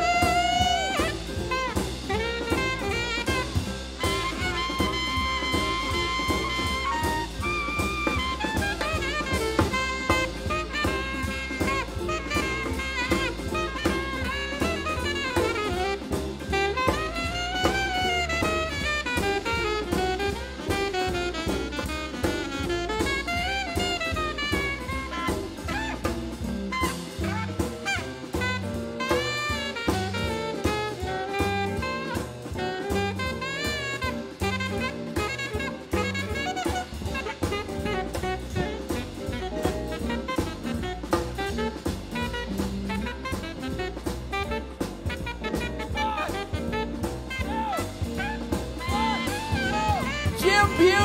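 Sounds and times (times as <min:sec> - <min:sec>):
jazz band playing: 0:00.0 - 0:51.0
saxophone solo: 0:00.0 - 0:51.0.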